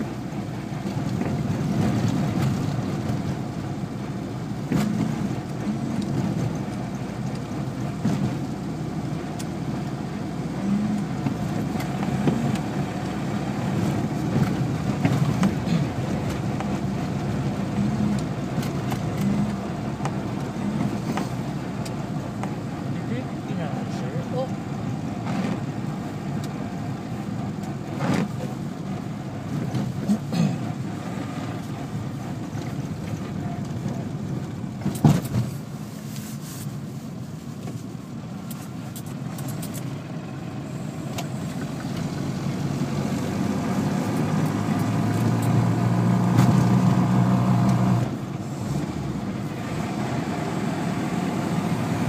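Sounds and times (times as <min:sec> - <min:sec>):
car engine drone: 0:00.0 - 0:52.0
road noise: 0:00.0 - 0:52.0.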